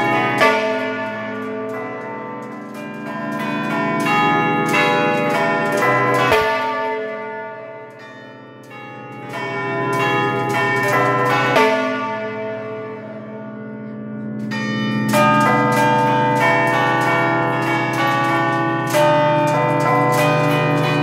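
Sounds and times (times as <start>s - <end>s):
large church bells pealing: 0.0s - 21.0s.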